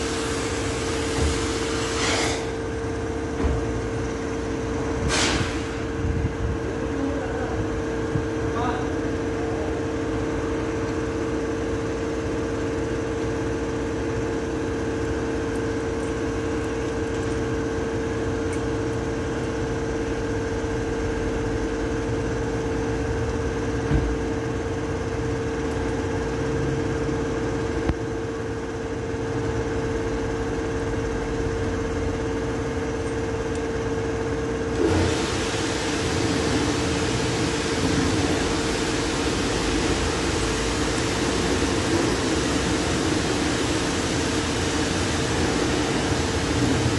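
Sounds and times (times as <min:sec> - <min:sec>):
machine hum: 0:05.8 - 0:46.9.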